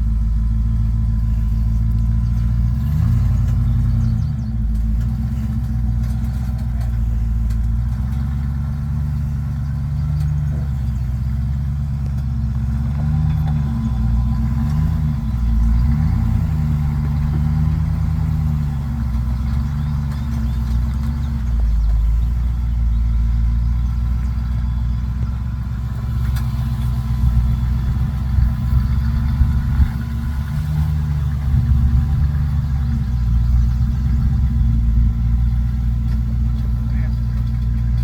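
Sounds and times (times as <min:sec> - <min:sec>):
off-road vehicle engine revving: 0:00.0 - 0:38.0.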